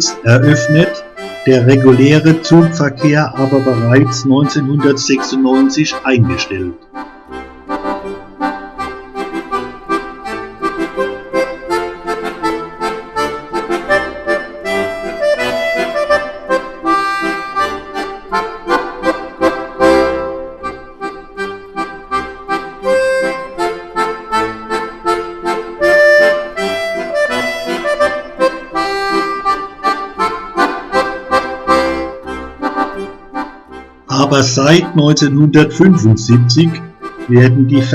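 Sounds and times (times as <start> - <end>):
accordion tune: 0.0 - 37.9.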